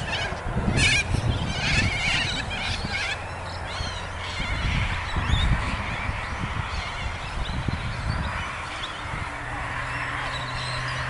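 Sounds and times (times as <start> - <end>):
cockatoos screeching: 0.0 - 11.0.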